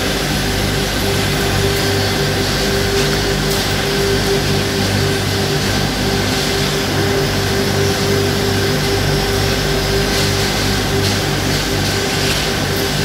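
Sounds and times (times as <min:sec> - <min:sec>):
industrial machinery drone: 0:00.0 - 0:13.0.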